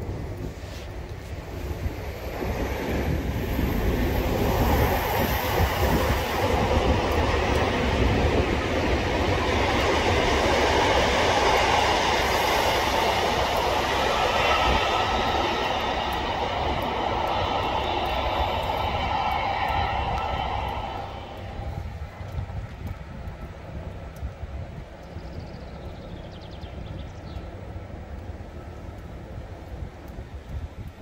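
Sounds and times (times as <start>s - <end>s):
freight train wagons rolling past: 0.0s - 31.0s.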